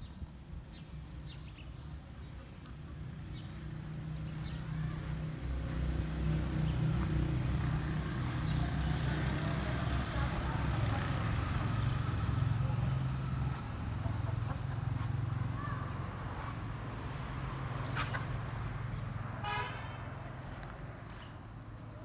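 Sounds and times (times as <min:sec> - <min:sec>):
vehicle engine humming: 0:00.7 - 0:22.0.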